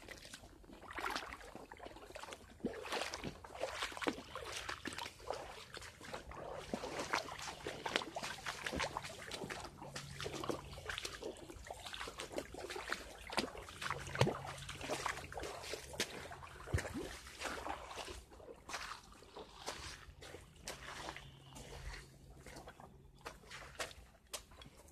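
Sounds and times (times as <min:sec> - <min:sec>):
footsteps sloshing through creek: 0:00.0 - 0:24.9
small splashes and clicks: 0:00.0 - 0:24.9
water trickling: 0:00.1 - 0:24.8.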